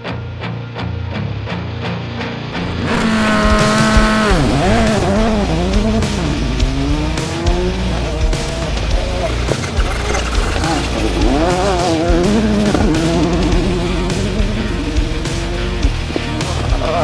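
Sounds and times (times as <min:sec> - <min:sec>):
rally car engine revving: 0:02.5 - 0:17.0.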